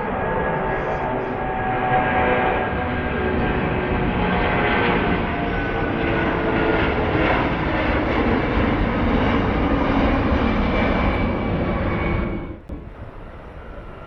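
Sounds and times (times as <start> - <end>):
jet engines whining: 0.0 - 14.0.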